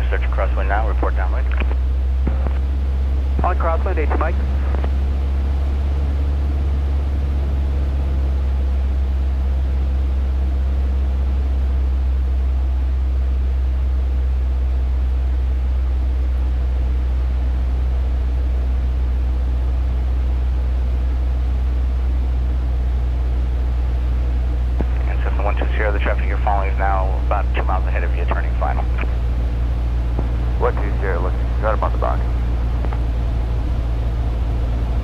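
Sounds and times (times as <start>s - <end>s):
airplane engine droning in cockpit: 0.0s - 35.0s.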